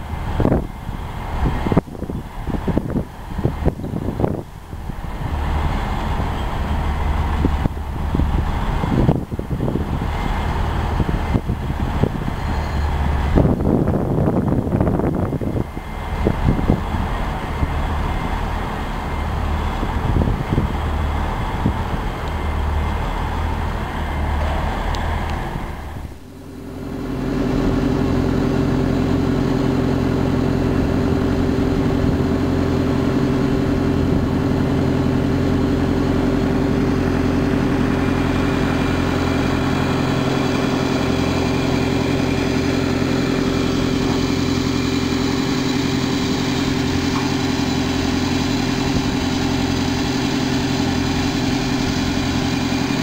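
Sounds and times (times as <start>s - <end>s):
ship engine running steadily: 0.0s - 53.0s.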